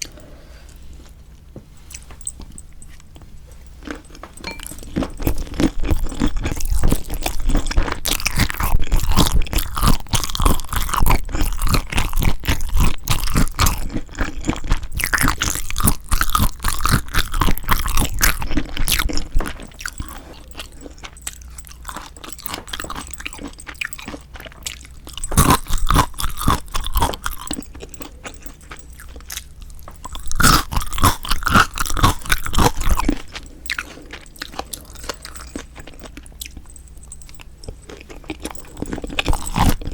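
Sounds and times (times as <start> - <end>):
wet crunching and chewing: 1.0 - 39.9.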